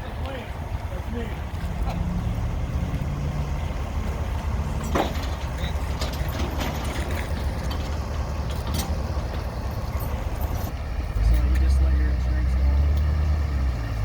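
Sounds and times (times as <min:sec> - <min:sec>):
vehicle rumble: 0:00.0 - 0:14.0.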